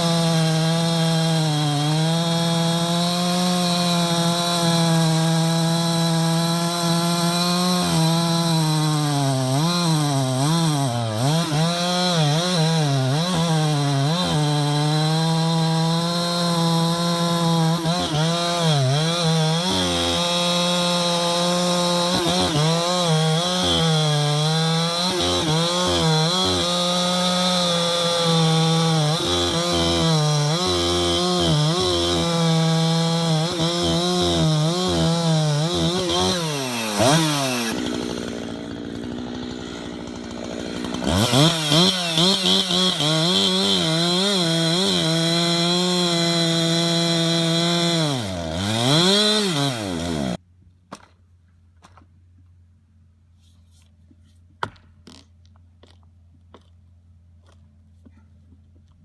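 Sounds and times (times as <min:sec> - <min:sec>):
chainsaw cutting log: 0:00.0 - 0:51.2, 0:54.6 - 0:56.8.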